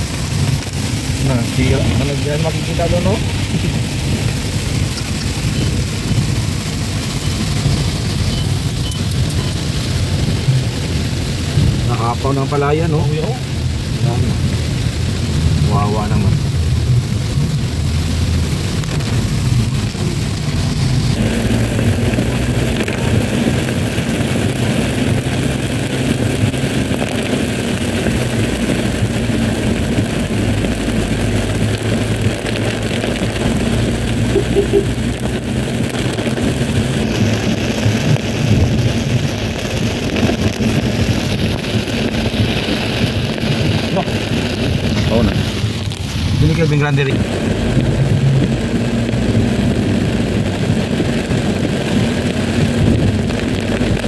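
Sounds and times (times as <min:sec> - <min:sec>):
car engine running: 0:00.0 - 0:54.0
rain hissing on windscreen: 0:00.0 - 0:54.0.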